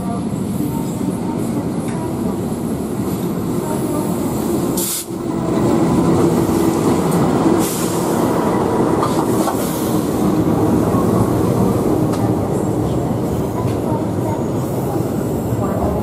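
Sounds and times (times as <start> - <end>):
train coaches rolling on rails: 0.0 - 16.0.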